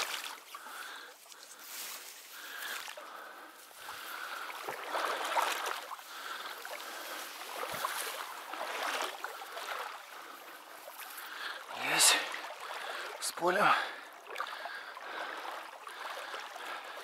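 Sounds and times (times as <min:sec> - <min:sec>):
water sloshing and swishing: 0:00.0 - 0:17.0.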